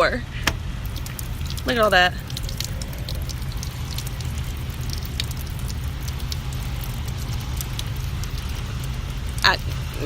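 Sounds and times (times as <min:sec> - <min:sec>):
rain falling: 0:00.8 - 0:10.0.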